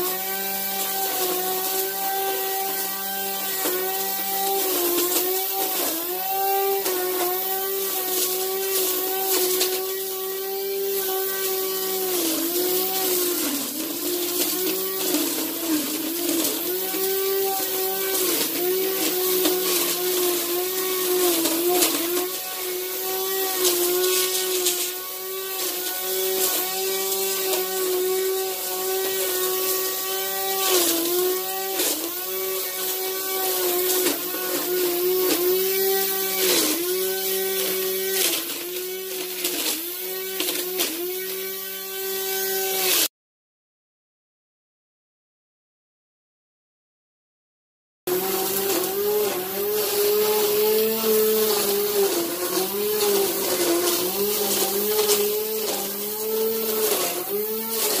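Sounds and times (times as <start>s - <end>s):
electric string trimmer whining: 0.0s - 43.1s, 48.1s - 58.0s.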